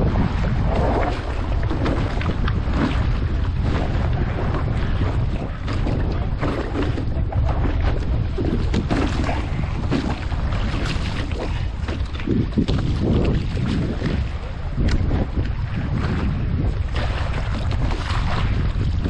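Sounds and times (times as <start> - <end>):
water splashing against board: 0.0 - 19.0
wind buffeting microphone: 0.0 - 19.0.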